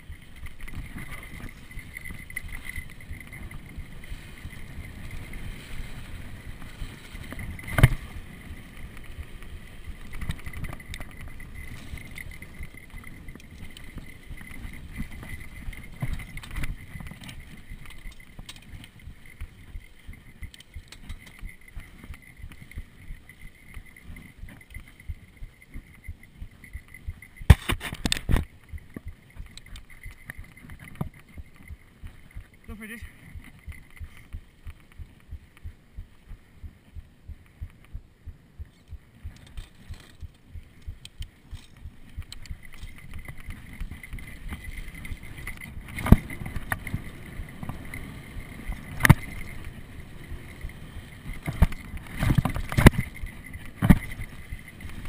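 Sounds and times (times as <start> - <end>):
bike rattling over bumps: 0.0 - 55.0
tyres crunching on dirt: 0.0 - 55.0.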